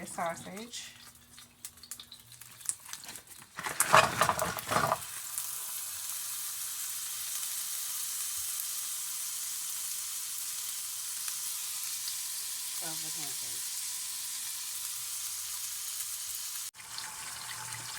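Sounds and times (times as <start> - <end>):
sausage sizzling in a pan: 0.0 - 17.9.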